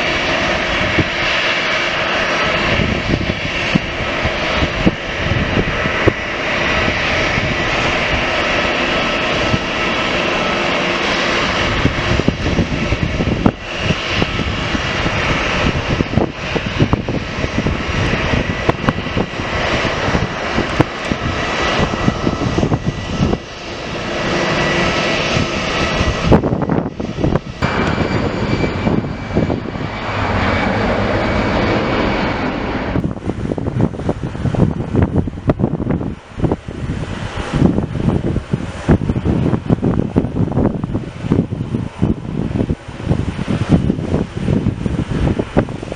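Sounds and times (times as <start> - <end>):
aircraft engines roaring: 0.0 - 45.9
steady high whine: 0.0 - 45.9.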